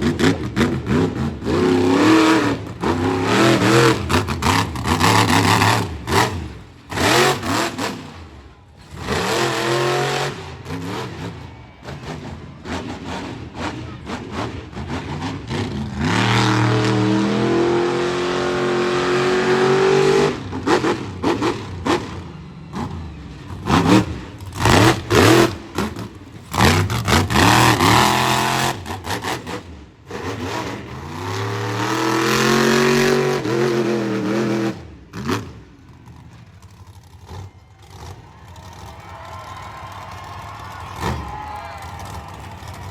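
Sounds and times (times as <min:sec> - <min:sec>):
monster truck engine revving: 0:00.0 - 0:42.9.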